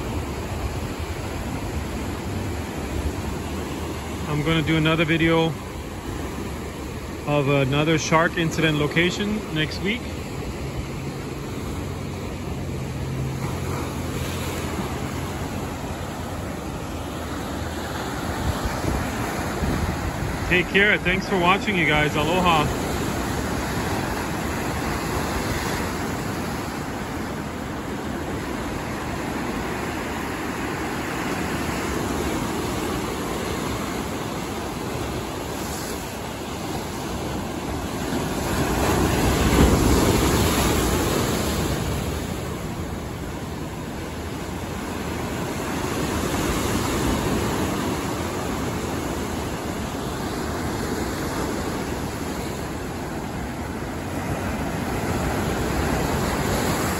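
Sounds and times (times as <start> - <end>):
surf breaking and washing ashore: 0.0 - 56.9.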